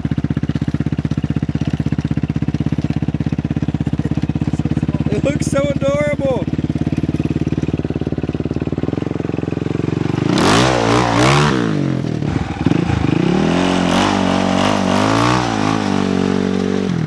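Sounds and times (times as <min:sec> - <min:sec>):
atv engine revving: 0:00.0 - 0:17.0
wheels spinning in dirt: 0:00.0 - 0:17.0.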